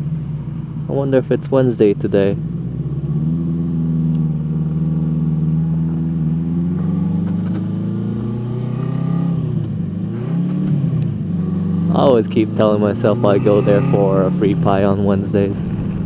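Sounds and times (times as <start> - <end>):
low wind rumble: 0.0 - 16.0
motorcycle engine running: 0.0 - 16.0.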